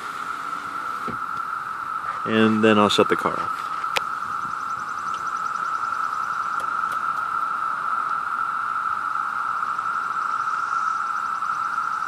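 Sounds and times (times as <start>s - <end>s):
cicadas whining in chorus: 0.0s - 12.0s.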